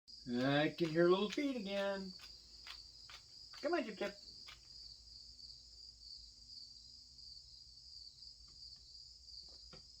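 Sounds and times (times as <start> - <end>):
crickets chirring: 0.1 - 10.0.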